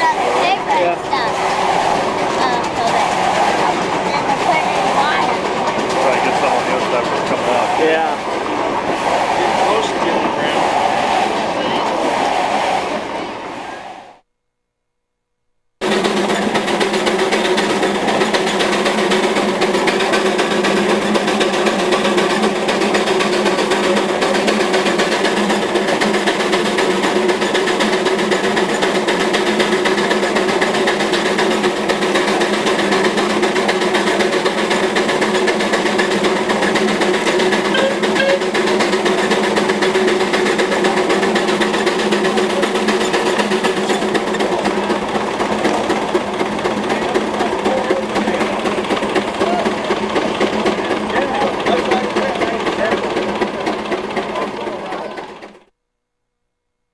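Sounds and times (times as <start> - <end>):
lathe rattling over low hum: 0.0 - 14.0, 15.8 - 55.7.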